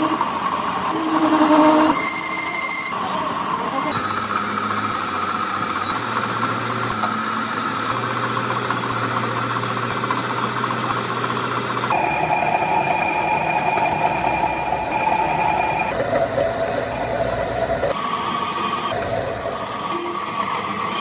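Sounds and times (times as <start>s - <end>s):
higher-toned machine sound: 0.0s - 21.0s
machinery humming: 0.0s - 21.0s.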